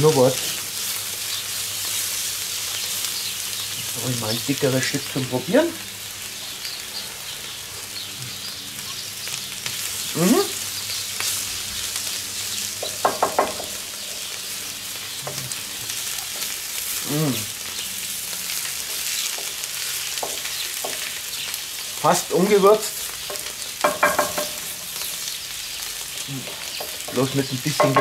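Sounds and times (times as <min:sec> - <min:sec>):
vegetables sizzling in skillet: 0:00.0 - 0:28.0.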